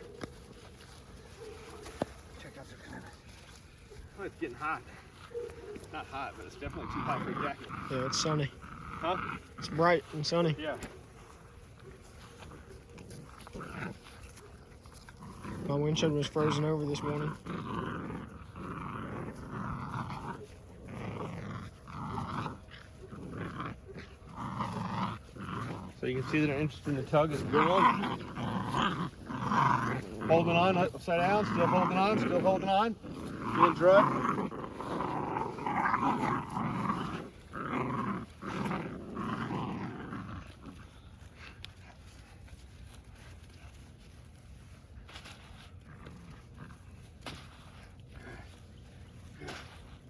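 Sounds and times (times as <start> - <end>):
puppies growling: 0.0 - 50.0.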